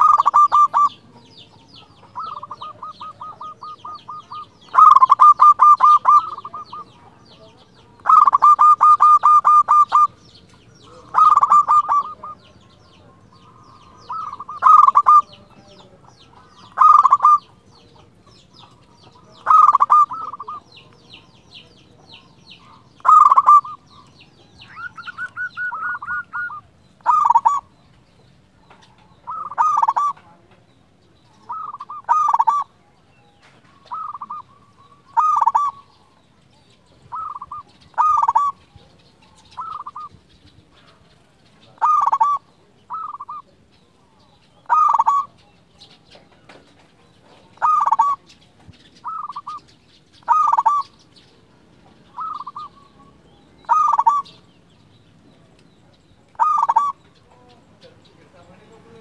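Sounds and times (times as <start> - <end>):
dove cooing: 0.0 - 28.0, 28.6 - 30.6, 31.2 - 54.6, 56.0 - 59.0.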